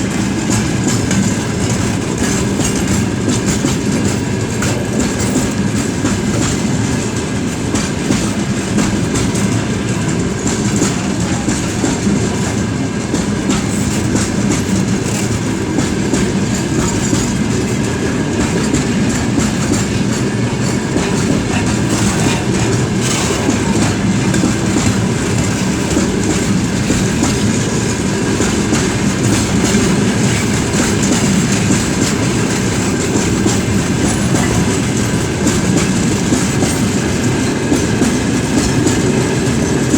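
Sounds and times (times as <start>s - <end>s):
train wheels clattering: 0.0s - 39.9s.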